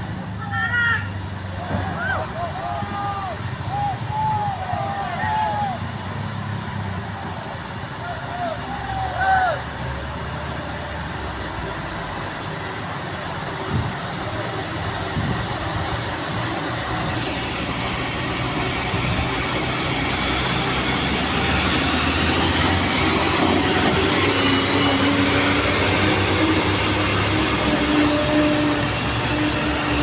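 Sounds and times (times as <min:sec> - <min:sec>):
heavy vehicle engine rumbling: 0:00.0 - 0:30.0.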